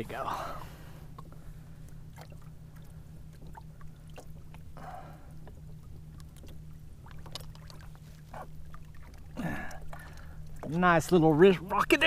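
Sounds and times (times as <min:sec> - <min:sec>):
steady low hum: 0:00.0 - 0:12.0
water splashing and dripping: 0:02.1 - 0:12.0.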